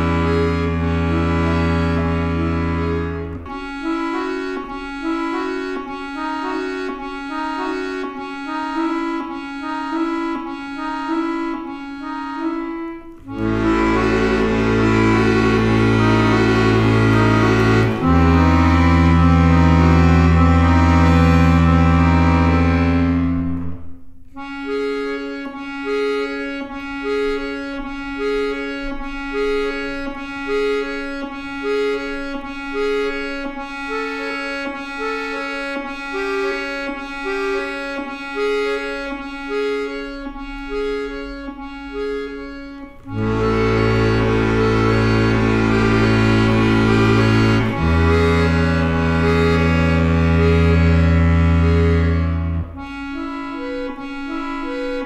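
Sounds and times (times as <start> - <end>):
instrumental music repeating figure: 0.0 - 55.0.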